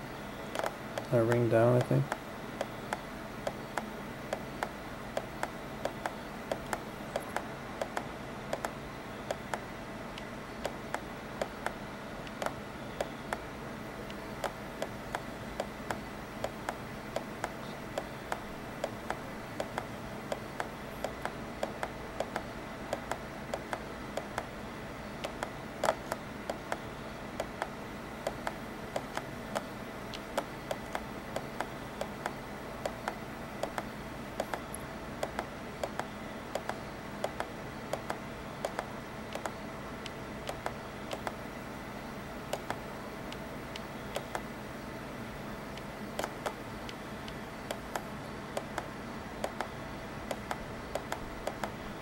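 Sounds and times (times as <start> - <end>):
sharp electrical clicks: 0.0 - 41.5, 42.1 - 44.6, 45.6 - 51.9
faint steady tones: 0.0 - 52.0.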